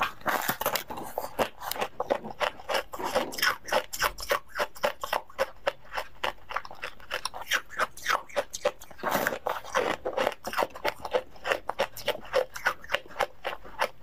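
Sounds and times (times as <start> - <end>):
ice crunching while chewed: 0.0 - 14.0.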